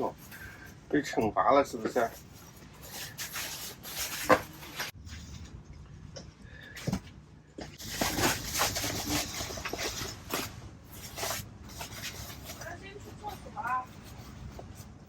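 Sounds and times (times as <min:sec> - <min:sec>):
rustling and knocks of movement: 0:00.0 - 0:15.0.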